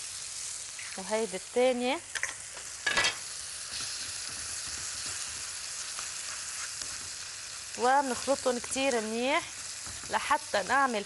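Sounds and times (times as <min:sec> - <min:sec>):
vegetables and eggs sizzling in pan: 0:00.0 - 0:11.0.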